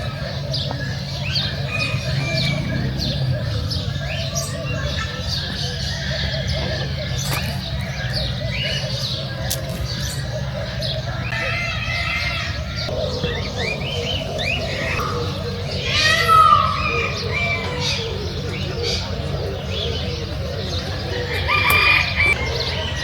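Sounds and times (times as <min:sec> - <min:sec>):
birds chirping and calling: 0:00.0 - 0:23.0
loud falling bird call: 0:00.0 - 0:23.0.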